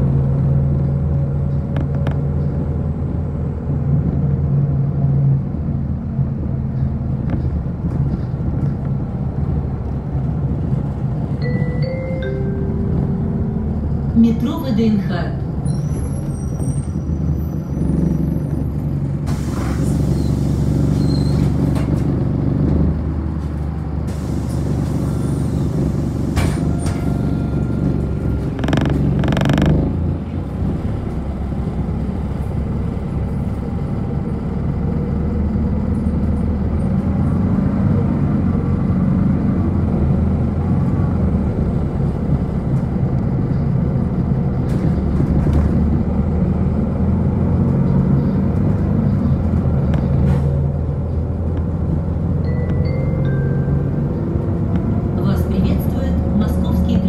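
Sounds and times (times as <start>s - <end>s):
bus engine running: 0.0s - 57.0s
tyres on the road: 0.0s - 57.0s.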